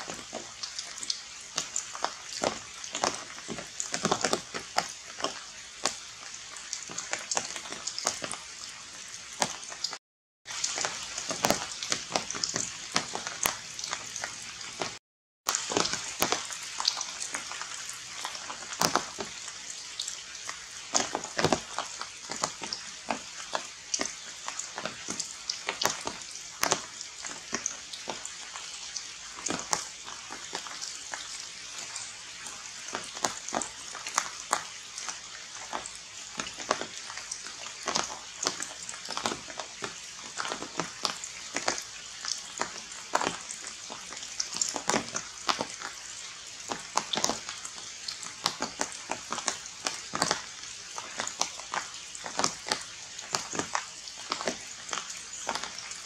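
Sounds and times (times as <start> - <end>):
raindrops pattering on leaves: 0.0 - 56.0.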